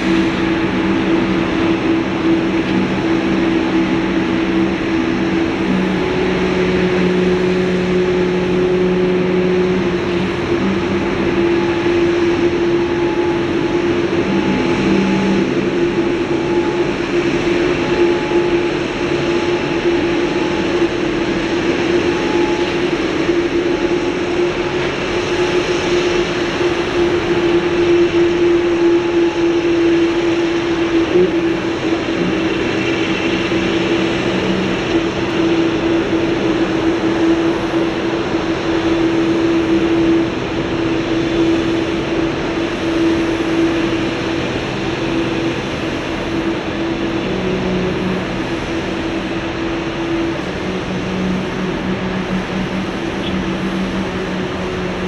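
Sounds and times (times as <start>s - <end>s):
jet engines idling: 0.0s - 55.0s.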